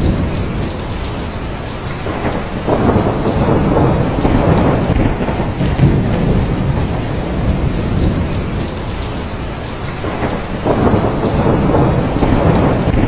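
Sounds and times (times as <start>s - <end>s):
heavy rain falling: 0.0s - 13.0s
rolling thunder: 0.0s - 13.0s.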